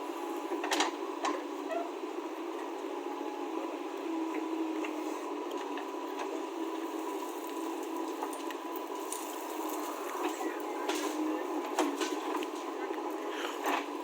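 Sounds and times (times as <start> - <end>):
diesel engine droning: 0.0 - 14.0
faint steady whine: 0.0 - 14.0.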